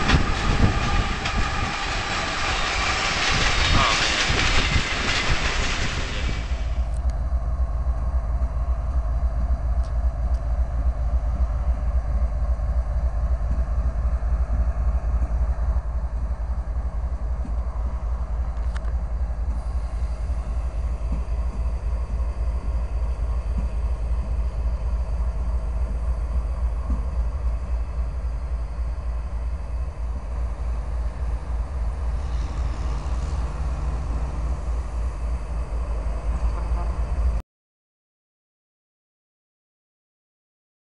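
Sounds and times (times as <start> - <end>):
train rolling past: 0.0 - 37.4.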